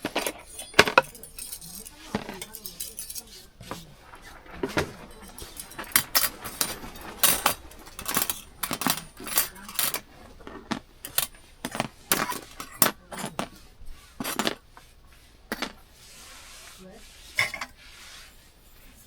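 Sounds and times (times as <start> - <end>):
metal utensils and dishes clinking: 0.0 - 16.0, 17.2 - 19.0.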